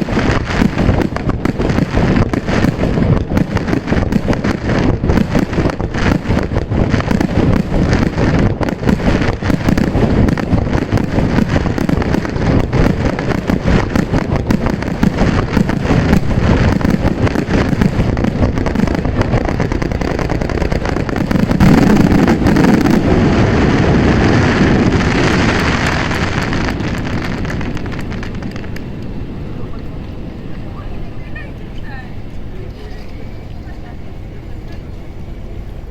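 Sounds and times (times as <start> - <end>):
fireworks bursting: 0.0 - 35.9
fireworks hiss: 0.0 - 35.9.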